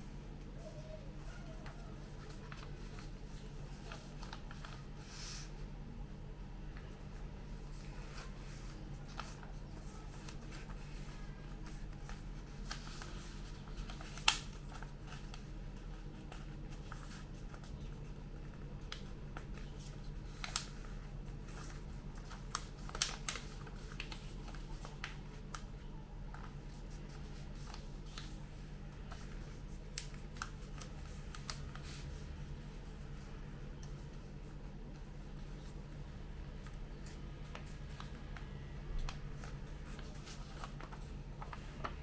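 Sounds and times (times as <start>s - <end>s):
paper being folded and creased: 0.5s - 5.6s, 6.8s - 35.8s, 39.0s - 42.0s.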